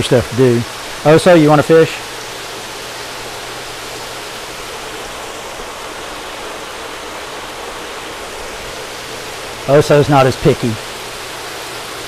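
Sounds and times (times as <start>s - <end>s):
running water splashing into tanks: 0.0s - 12.0s.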